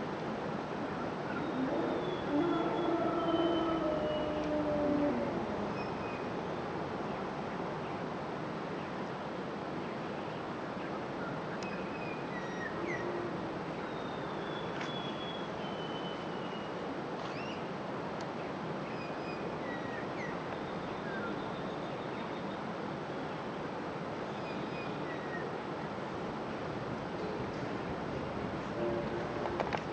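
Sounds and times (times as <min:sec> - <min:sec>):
steady outdoor hiss: 0:00.0 - 0:29.9.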